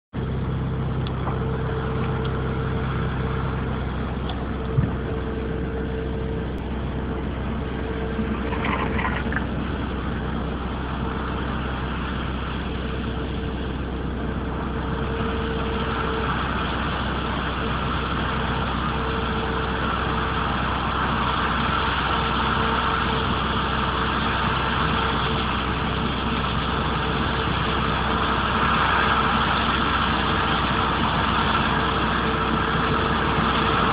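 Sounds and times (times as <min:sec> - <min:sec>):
combine harvester engine drone: 0:00.2 - 0:33.9
steady whine: 0:00.2 - 0:33.9.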